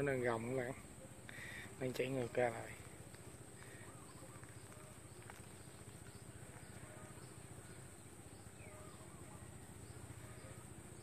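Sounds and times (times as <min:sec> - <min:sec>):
faint bird chirps: 0:00.0 - 0:11.0
high-pitched insect drone: 0:00.0 - 0:11.0.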